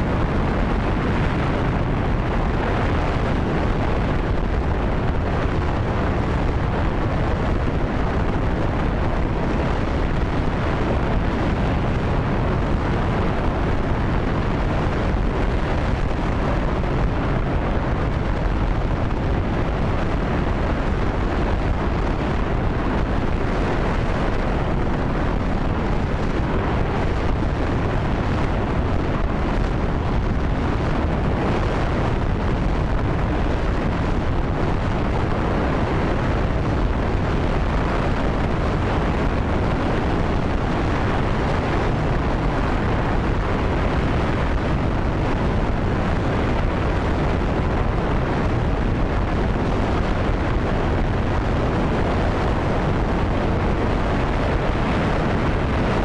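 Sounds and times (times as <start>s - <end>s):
rocket engine roaring: 0.0s - 56.0s.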